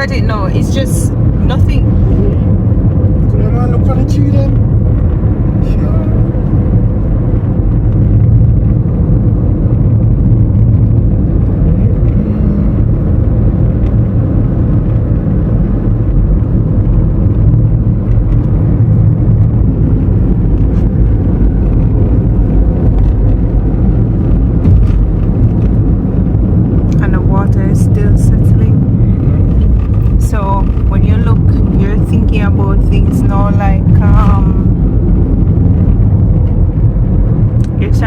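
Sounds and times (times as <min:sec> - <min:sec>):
car engine and tyre noise: 0:00.0 - 0:38.0.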